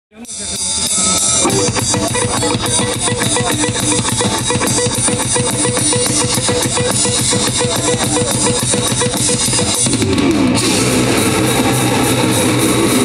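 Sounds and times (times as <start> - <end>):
drum kit fast beat: 0.6 - 13.0
live rock band: 0.9 - 13.0.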